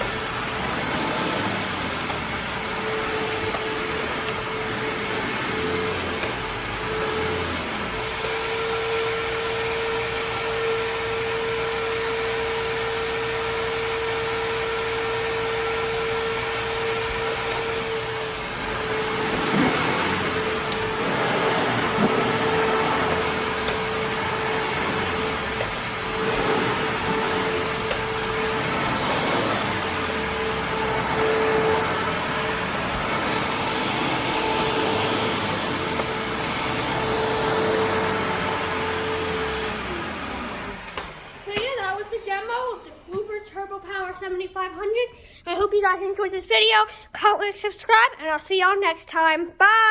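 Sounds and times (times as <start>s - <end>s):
vacuum cleaner motor whine: 0.0s - 43.7s.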